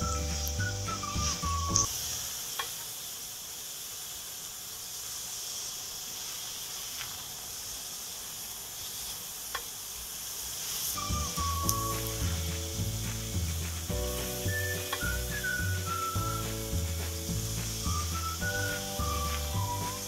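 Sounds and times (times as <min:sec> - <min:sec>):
flatbread sizzling in ghee: 0:00.0 - 0:20.0.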